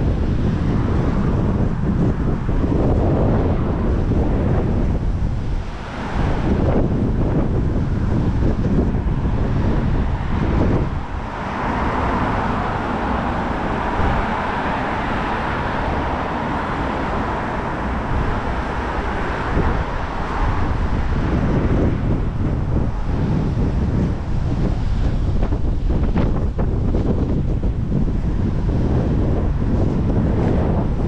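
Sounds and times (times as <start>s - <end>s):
vehicle passing: 0.0s - 31.0s
wind on microphone: 0.0s - 31.0s.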